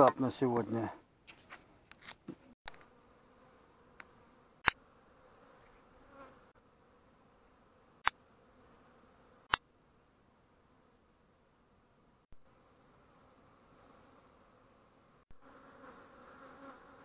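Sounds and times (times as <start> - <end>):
bees humming: 2.8 - 17.0.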